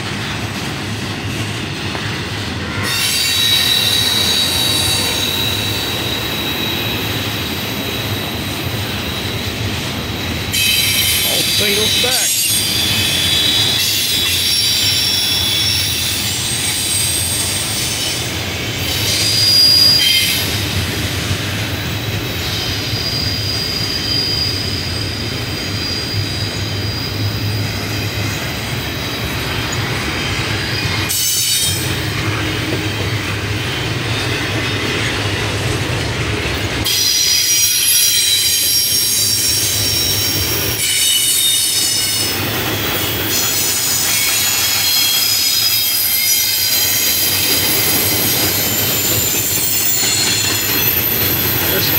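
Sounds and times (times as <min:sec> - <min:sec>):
train rumble: 0:00.0 - 0:51.9
train wheels squealing on rail: 0:00.0 - 0:51.9.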